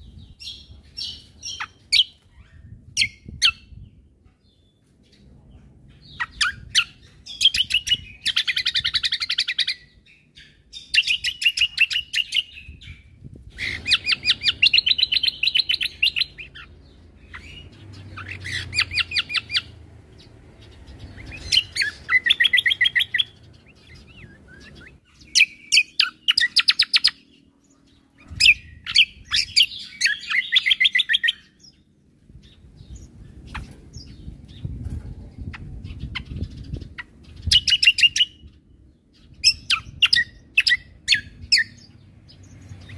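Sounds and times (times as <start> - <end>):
songbird rattling song: 0.0 - 42.9.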